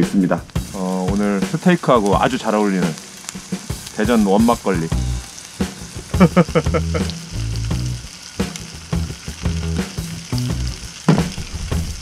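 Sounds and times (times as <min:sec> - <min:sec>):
steaks sizzling on griddle: 0:00.0 - 0:12.0.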